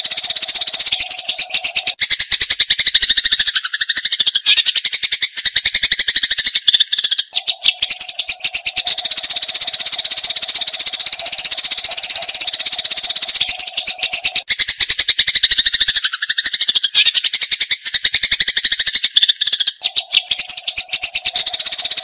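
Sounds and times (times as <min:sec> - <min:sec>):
sparrow chattering: 0:00.0 - 0:22.0.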